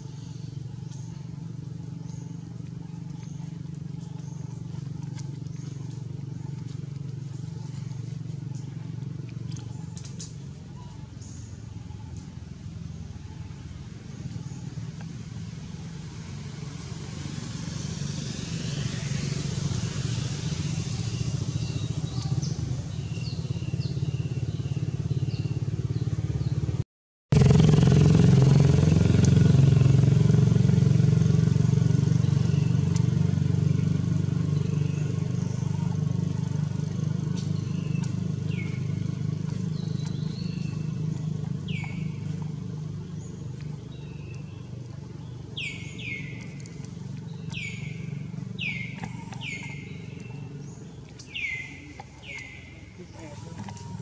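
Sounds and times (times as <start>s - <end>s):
low motor drone: 0.0s - 54.0s.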